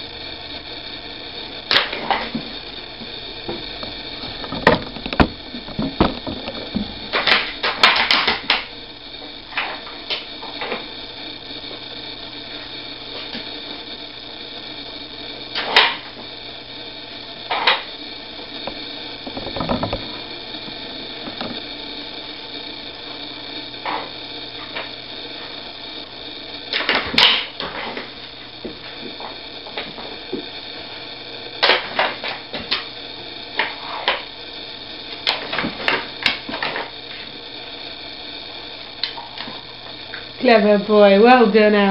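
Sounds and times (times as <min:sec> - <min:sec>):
steady background hum: 0:00.0 - 0:41.9.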